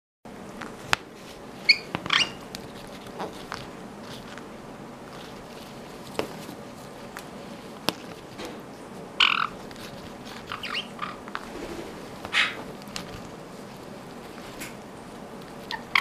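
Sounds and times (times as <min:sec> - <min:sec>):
parrot scratching in a towel: 0:01.1 - 0:08.4, 0:09.2 - 0:16.0.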